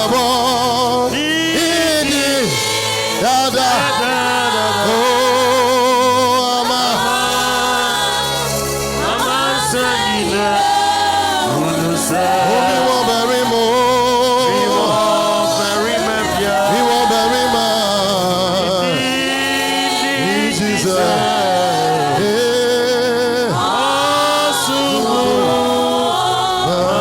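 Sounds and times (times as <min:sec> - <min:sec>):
voices singing gospel song: 0:00.0 - 0:27.0.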